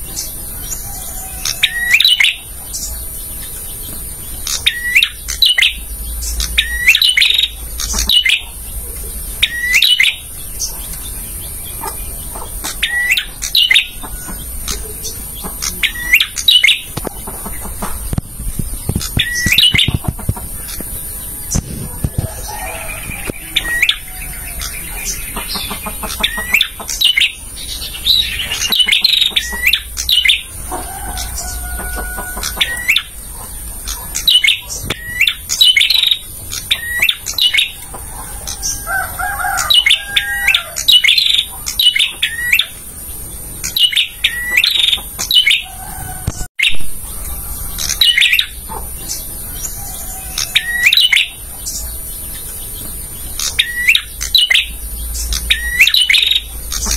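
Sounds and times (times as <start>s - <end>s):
bird chirping and whistling: 0.1s - 8.6s, 9.3s - 37.8s, 38.4s - 42.8s, 43.6s - 52.4s, 53.1s - 56.9s.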